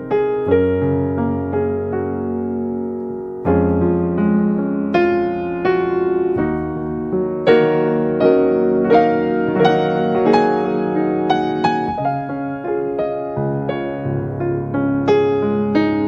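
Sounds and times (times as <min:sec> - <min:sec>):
slow solo piano melody: 0:00.0 - 0:16.0.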